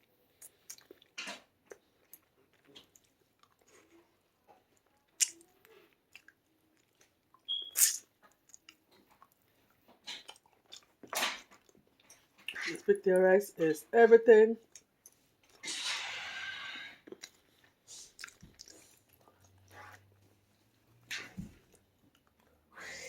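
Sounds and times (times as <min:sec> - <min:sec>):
chewing food: 0:00.0 - 0:12.9, 0:14.6 - 0:15.7, 0:17.0 - 0:22.6.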